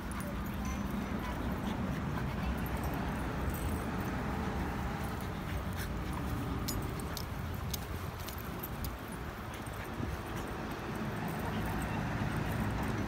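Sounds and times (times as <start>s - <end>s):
dogs vocalising while playing: 0.0s - 13.0s.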